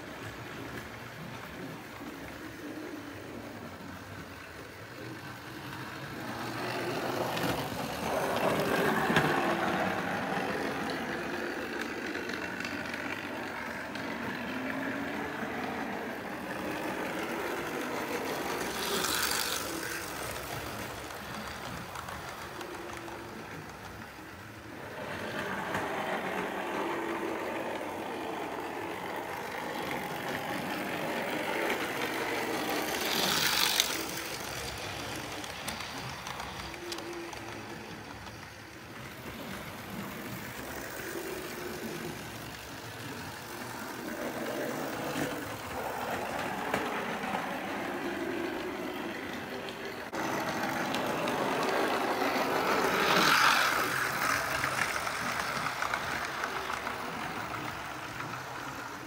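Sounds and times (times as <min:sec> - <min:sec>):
model trains running on track: 0:00.0 - 0:59.0.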